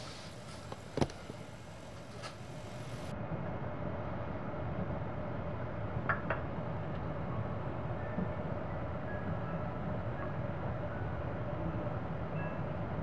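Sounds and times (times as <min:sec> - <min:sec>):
train carriage rumble and hum: 0:00.0 - 0:13.0.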